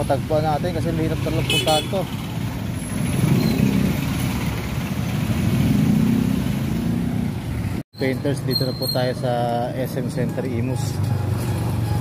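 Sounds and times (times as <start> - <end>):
vehicle engines droning: 0.0 - 12.0.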